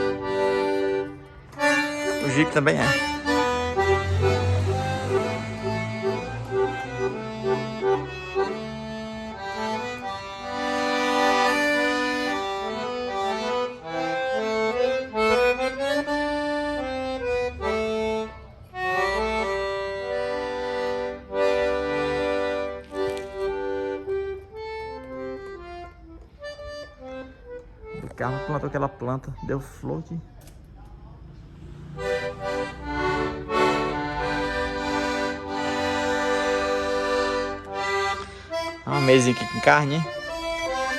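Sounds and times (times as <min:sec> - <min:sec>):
accordion playing a tune: 0:00.0 - 0:30.6, 0:31.4 - 0:40.9.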